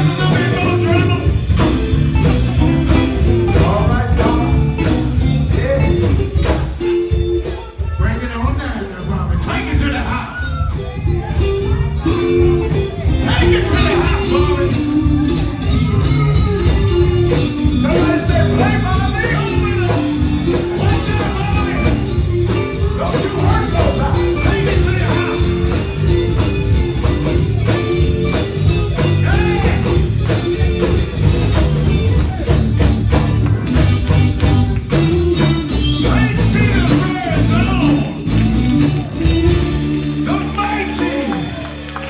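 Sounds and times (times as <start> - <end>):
voices singing: 0.0 - 32.9, 33.6 - 42.0
gospel band playing: 0.0 - 42.0.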